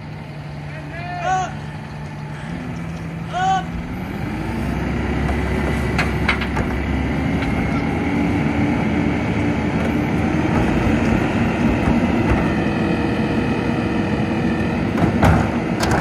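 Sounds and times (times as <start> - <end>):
garbage truck engine running: 0.0 - 16.0
hydraulic cart tipper whine: 0.0 - 16.0.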